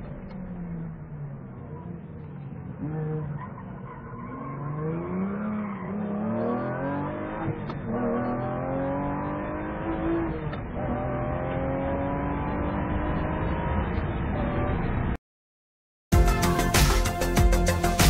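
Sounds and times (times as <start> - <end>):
sports car engine accelerating: 0.0 - 15.1.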